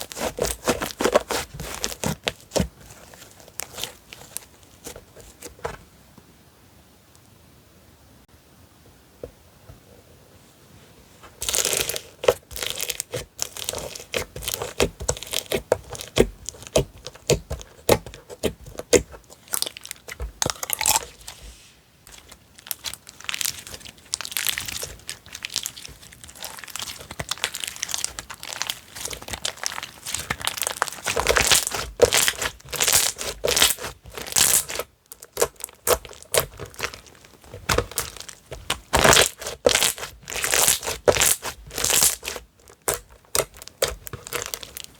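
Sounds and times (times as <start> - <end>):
slime crackling and popping: 0.0 - 5.4, 11.4 - 21.4, 22.1 - 44.9.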